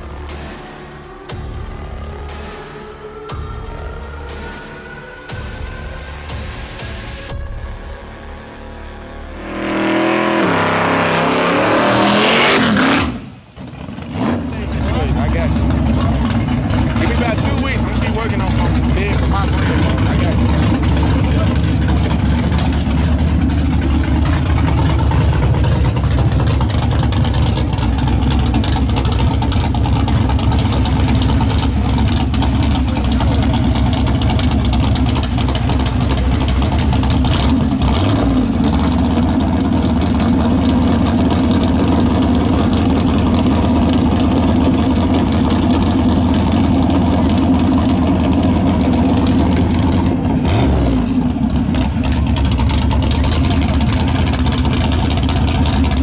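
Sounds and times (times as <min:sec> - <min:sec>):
truck engine idling loudly: 0:03.3 - 0:56.0
engine revving: 0:08.0 - 0:56.0.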